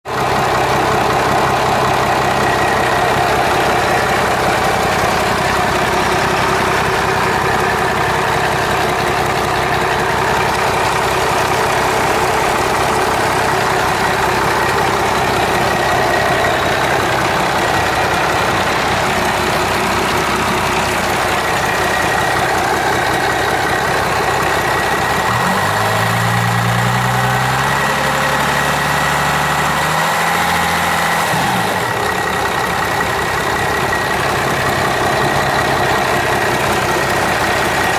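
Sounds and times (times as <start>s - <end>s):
diesel engine idling with clatter: 0.0s - 37.9s
diesel engine revving: 0.0s - 37.9s.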